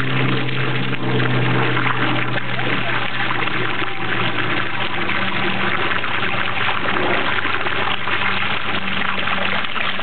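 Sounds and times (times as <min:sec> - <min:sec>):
steady low hum: 0:00.0 - 0:10.0
water from hose splashing: 0:00.0 - 0:10.0.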